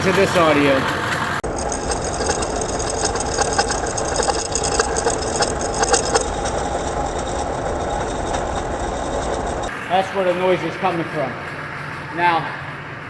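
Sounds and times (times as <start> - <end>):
pulley humming with clicks and rattles: 0.0 - 13.0.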